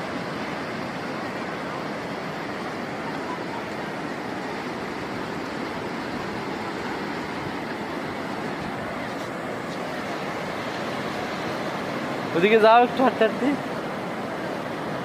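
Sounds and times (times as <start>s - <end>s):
sea surf washing in: 0.0s - 15.0s.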